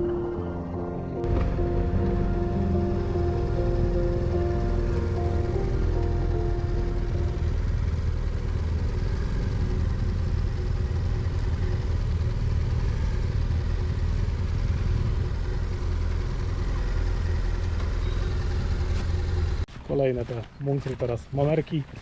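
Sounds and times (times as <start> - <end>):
motorcycle engine running: 1.2 - 19.6.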